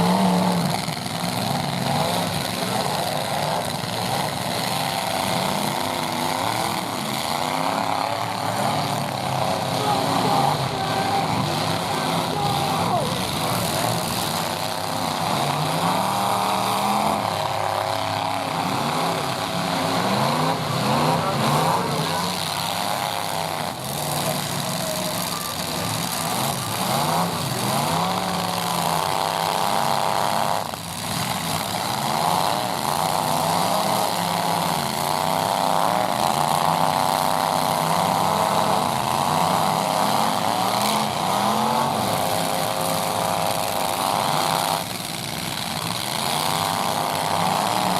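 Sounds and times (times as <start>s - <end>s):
truck engines revving: 0.0s - 47.9s.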